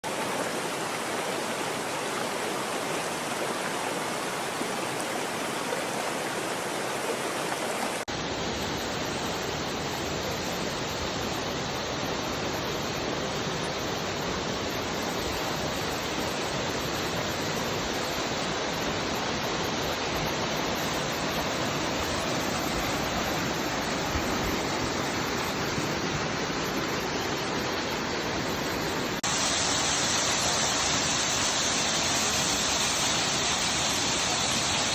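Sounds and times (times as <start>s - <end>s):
waterfall over rocks: 0.0s - 34.9s.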